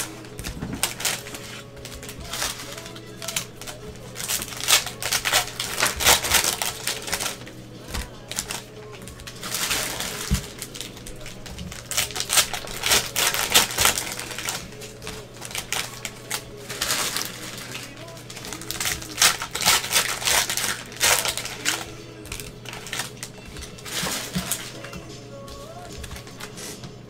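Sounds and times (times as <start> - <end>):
plastic wrappers crinkling and tearing: 0.0 - 26.8
cards being handled: 0.0 - 27.0.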